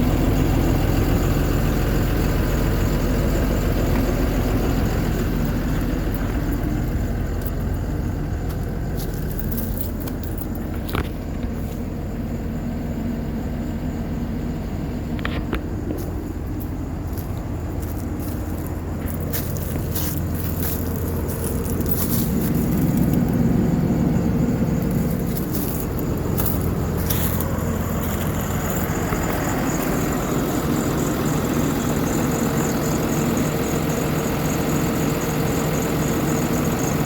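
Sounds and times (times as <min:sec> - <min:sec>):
truck diesel engine idling: 0:00.0 - 0:37.0.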